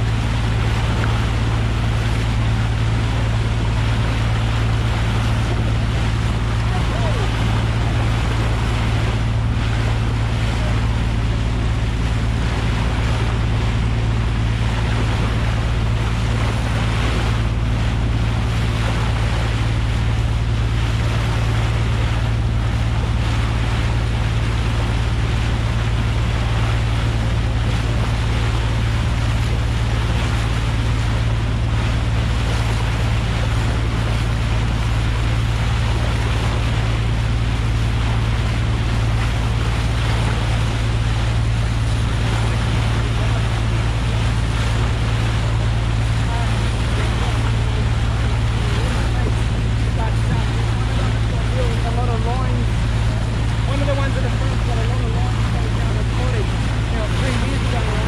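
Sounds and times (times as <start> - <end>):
boat engine droning: 0.0 - 58.0
bow wave rushing and splashing: 0.0 - 58.0
wind buffeting microphone: 0.0 - 58.0.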